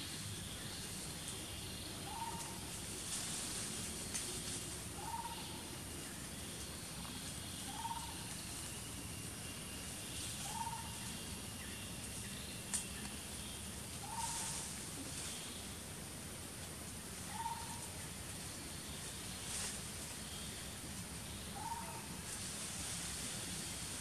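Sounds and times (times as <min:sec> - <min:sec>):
steady high forest hiss: 0:00.0 - 0:24.0.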